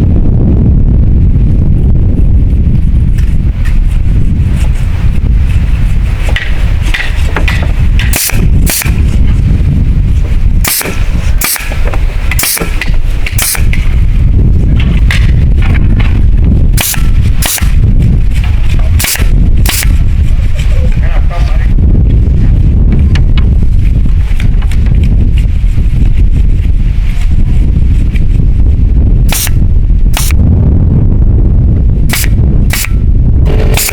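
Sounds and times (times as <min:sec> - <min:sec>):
wind rumble on microphone: 0:00.0 - 0:33.9.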